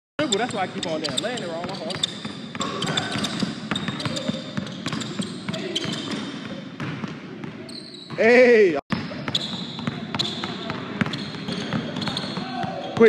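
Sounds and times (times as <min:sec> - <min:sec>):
basketball bouncing on hardwood floor: 0:00.4 - 0:07.6, 0:08.9 - 0:13.0.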